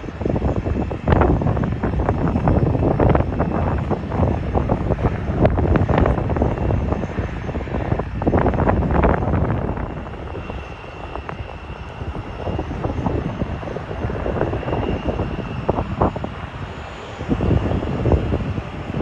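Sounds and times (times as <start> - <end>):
airliner engines running: 0.0 - 19.0
wind buffeting microphone: 0.0 - 19.0.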